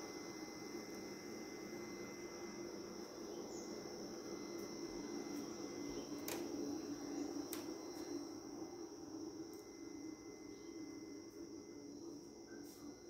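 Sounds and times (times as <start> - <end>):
high-pitched insect chorus: 0.0 - 13.0
low steady hum: 0.0 - 13.0.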